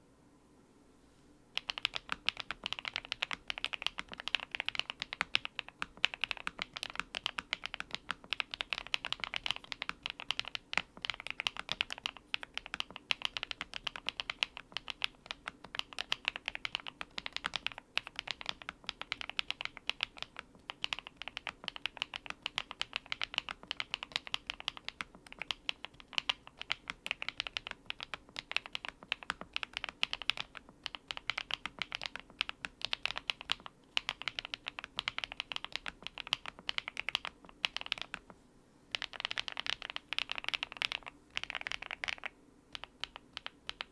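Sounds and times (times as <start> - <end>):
mechanical keyboard typing: 1.6 - 43.9.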